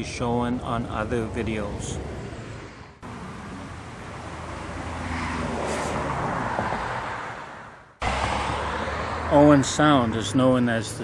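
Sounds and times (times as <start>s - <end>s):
vehicle passing: 1.2s - 11.0s.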